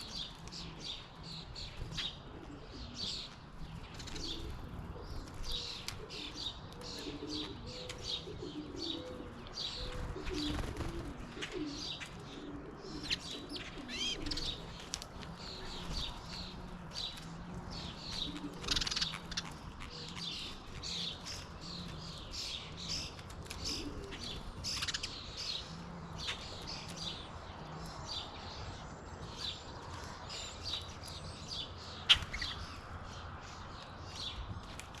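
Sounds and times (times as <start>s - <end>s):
low cooing calls: 0.0s - 33.0s
small birds chirping: 0.0s - 35.0s.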